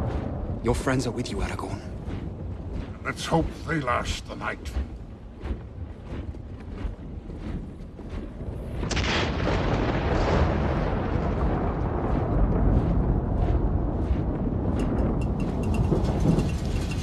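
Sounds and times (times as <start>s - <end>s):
thunder crack and rumble: 0.0s - 17.0s.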